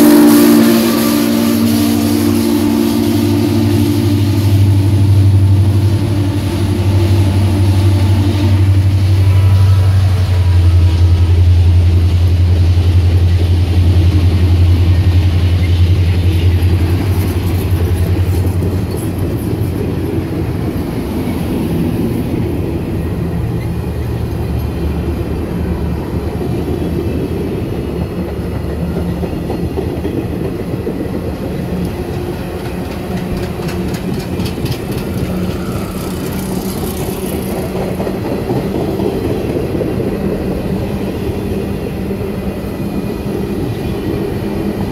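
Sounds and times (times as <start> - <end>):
loud low train drone: 0.0 - 44.9
train wheels clicking on rails: 0.0 - 44.9.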